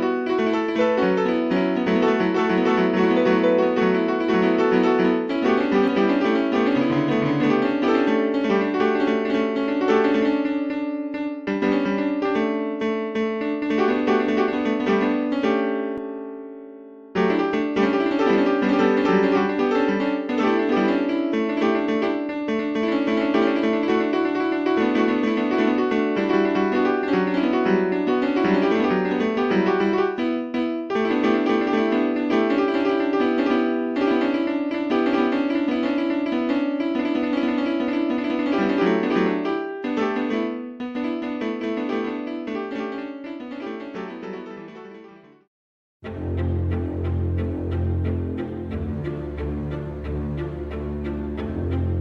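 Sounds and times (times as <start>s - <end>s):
solo piano music: 0.0s - 45.5s, 46.1s - 52.0s.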